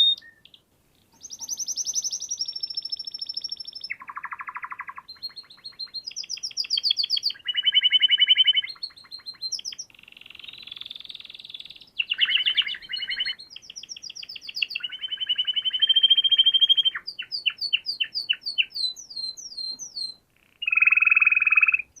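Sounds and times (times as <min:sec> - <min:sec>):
songbird singing trills and whistles: 0:00.0 - 0:22.0.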